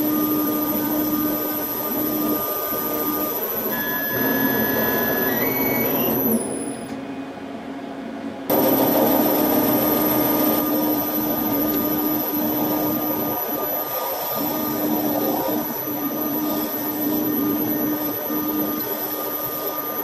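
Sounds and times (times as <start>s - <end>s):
lathe motor whine: 0.0s - 7.0s, 8.5s - 20.0s.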